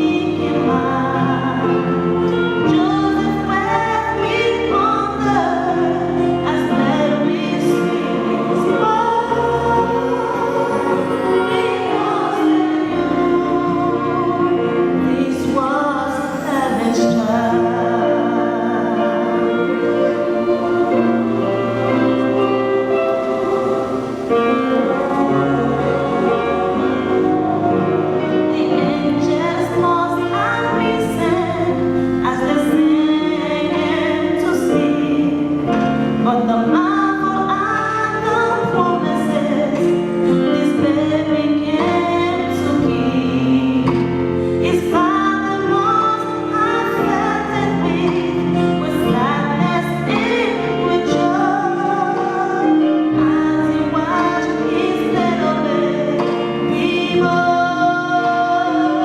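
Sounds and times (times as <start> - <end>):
choir singing: 0.0 - 59.0
instrumental accompaniment: 0.0 - 59.0.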